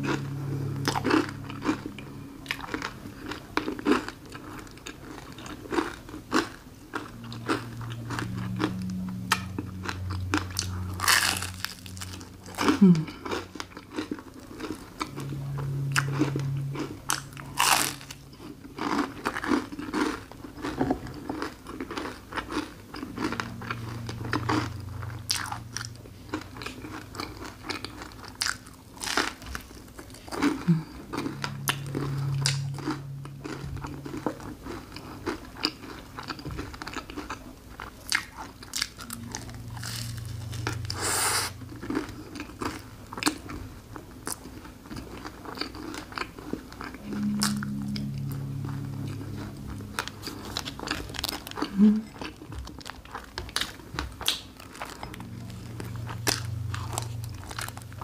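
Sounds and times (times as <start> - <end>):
chewing: 0.0 - 58.0
low humming: 0.0 - 58.0.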